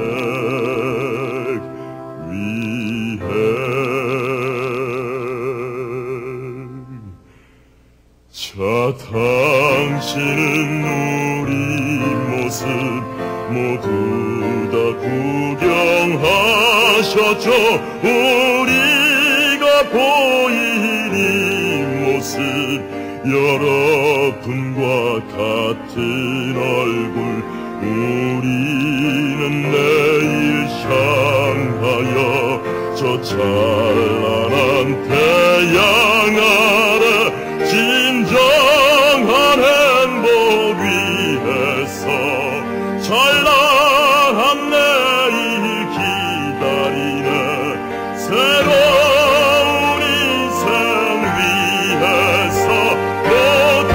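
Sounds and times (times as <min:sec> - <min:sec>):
musical theatre singing: 0:00.0 - 0:07.2, 0:08.4 - 0:53.9
orchestral accompaniment: 0:09.3 - 0:53.9.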